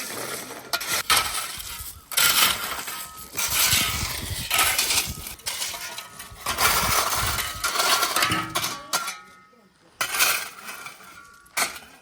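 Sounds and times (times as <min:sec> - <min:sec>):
metallic clinking and scraping: 0:00.0 - 0:12.0.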